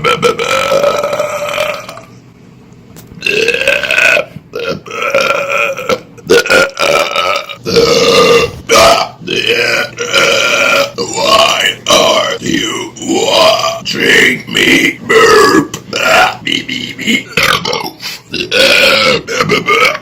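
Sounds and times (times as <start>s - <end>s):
man belching loudly: 0.0s - 2.1s, 3.2s - 20.0s.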